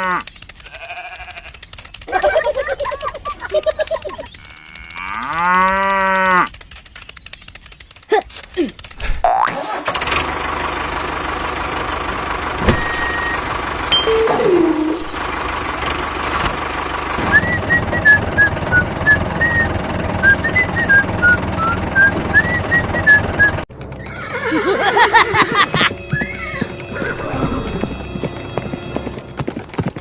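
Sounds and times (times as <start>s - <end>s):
tractor engine running: 0.2s - 9.2s, 9.8s - 30.0s.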